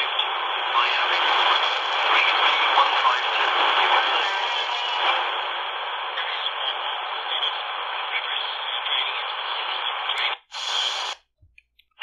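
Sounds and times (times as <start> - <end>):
shortwave radio static hiss: 0.0 - 11.2.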